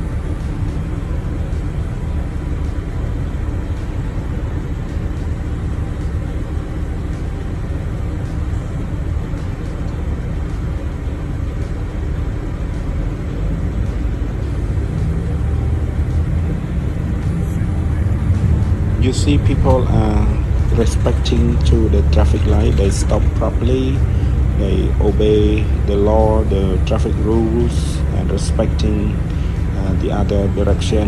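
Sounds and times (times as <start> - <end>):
road vehicle driving: 0.0 - 31.0.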